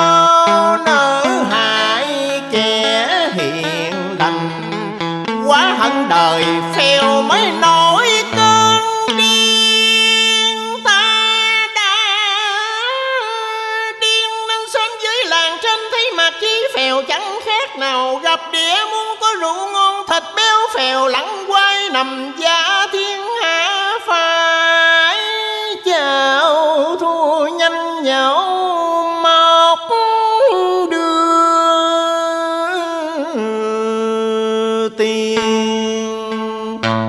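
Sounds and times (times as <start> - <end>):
man singing into a microphone: 0.0 - 37.0.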